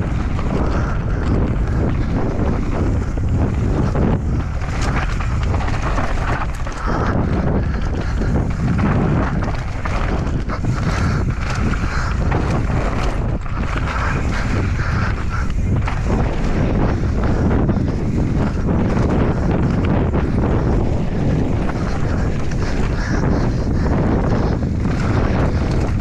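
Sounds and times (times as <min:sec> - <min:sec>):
bike knocks and rattles: 0:00.0 - 0:26.0
wind buffeting microphone: 0:00.0 - 0:26.0.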